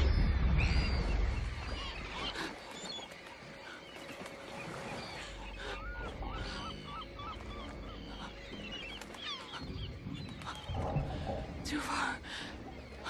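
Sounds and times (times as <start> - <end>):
seabirds calling: 0.0 - 13.0.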